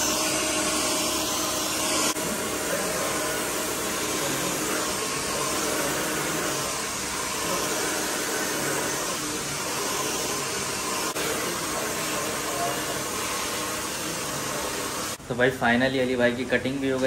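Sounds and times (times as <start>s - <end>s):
hair dryer running: 0.0s - 15.2s.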